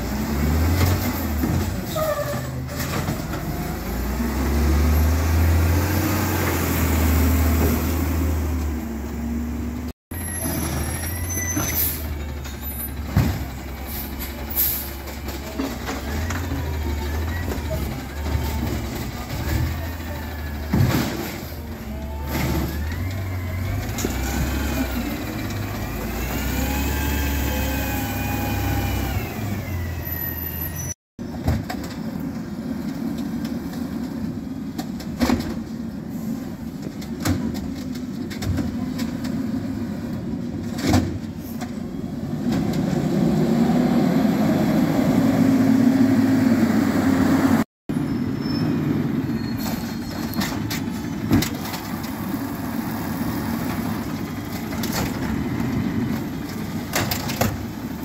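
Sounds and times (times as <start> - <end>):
garbage truck engine whining: 0.0 - 58.0
truck approaching: 0.0 - 58.0.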